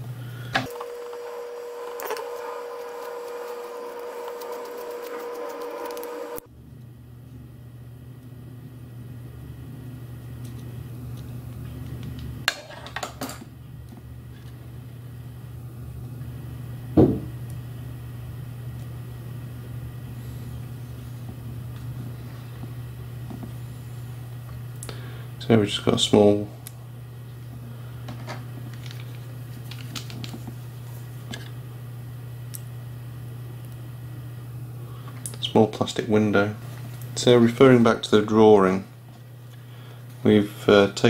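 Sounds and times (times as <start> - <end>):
steady background hum: 0.0 - 41.0.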